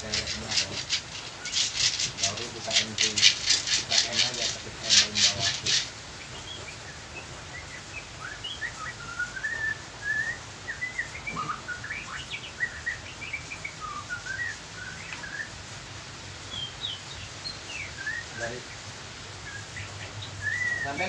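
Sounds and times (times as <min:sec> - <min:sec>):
songbirds chirping: 0:00.0 - 0:21.0
steady background hiss: 0:00.0 - 0:21.0.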